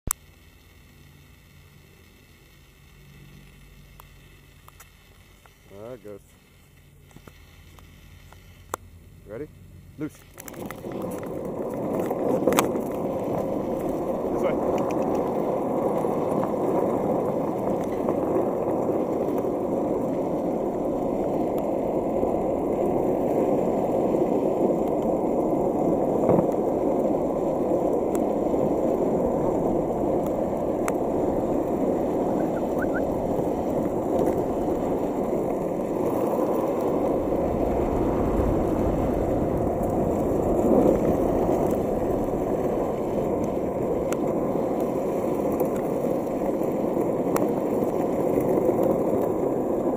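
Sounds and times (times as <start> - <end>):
skateboard wheels rolling on asphalt: 0.0 - 49.9.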